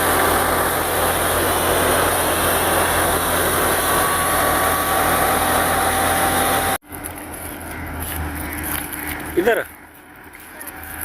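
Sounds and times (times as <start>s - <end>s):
tractor engine driving thresher: 0.0s - 11.0s.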